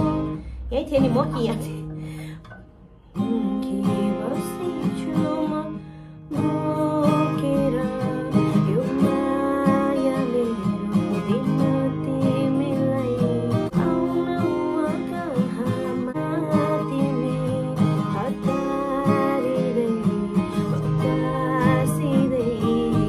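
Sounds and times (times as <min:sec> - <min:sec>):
acoustic guitar strummed and picked: 0:00.0 - 0:23.0.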